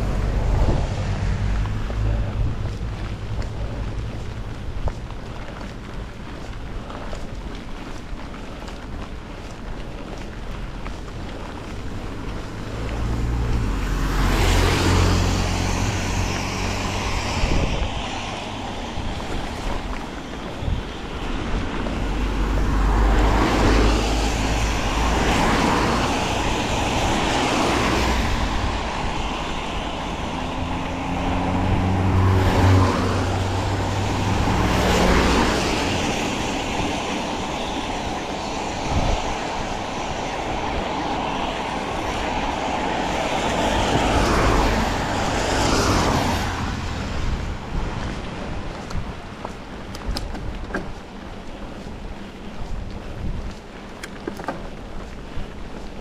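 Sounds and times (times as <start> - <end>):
engine hum: 0.0 - 56.0
motor vehicles passing: 0.0 - 56.0.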